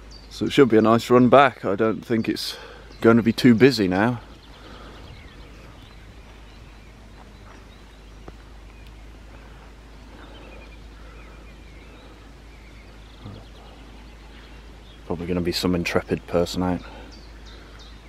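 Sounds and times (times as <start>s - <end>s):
faint birdsong: 0.0s - 18.0s
steady low rumble: 0.0s - 18.0s.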